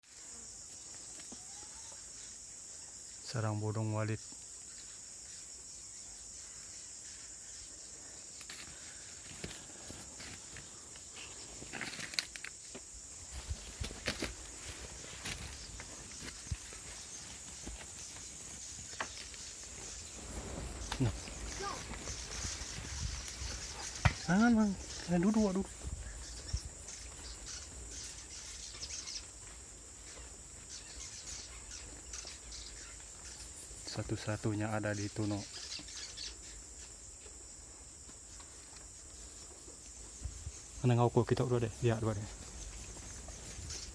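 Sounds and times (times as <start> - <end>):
high-pitched insect drone: 0.0 - 43.9
steady high hiss: 0.1 - 43.9.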